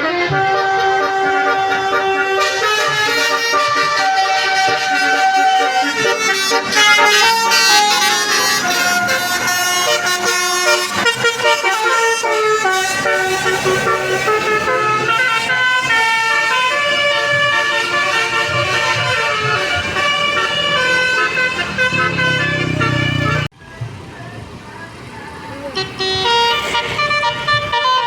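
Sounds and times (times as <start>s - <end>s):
multi-tone bus air horn melody: 0.0s - 23.5s, 25.7s - 28.0s.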